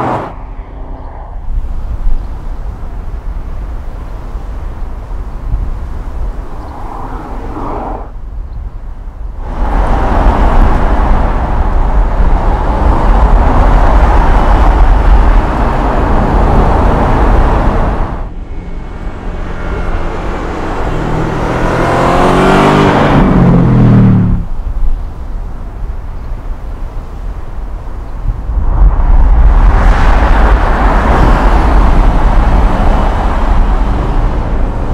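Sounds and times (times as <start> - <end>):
car engine and tyre noise: 0.0 - 34.9.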